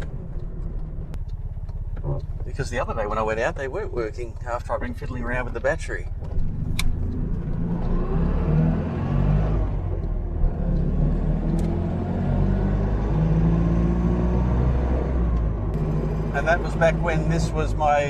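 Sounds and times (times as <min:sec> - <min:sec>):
small car engine droning: 0:00.0 - 0:18.0.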